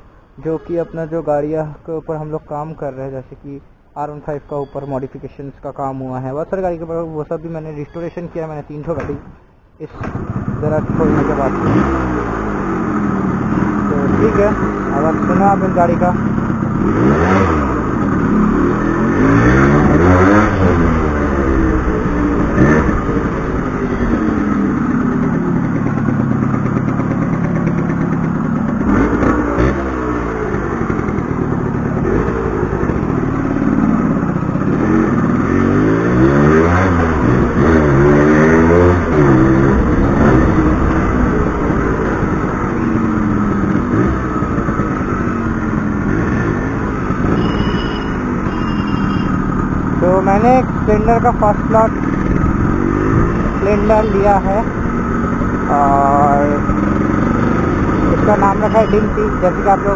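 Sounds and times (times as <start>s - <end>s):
motorcycle engine revving: 10.0s - 59.9s.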